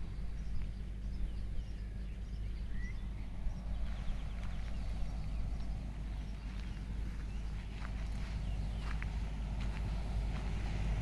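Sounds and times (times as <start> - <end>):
birds chirping: 0.0 - 11.0
wind buffeting microphone: 0.0 - 11.0.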